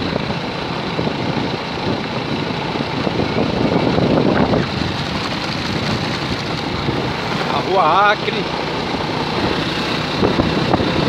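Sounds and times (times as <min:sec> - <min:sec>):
vehicle driving over cobblestones: 0:00.0 - 0:11.0.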